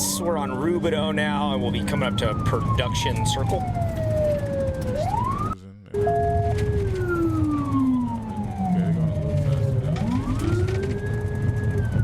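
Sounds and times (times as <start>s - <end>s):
car engine rumble: 0.0s - 12.0s
police siren wailing: 0.0s - 12.0s.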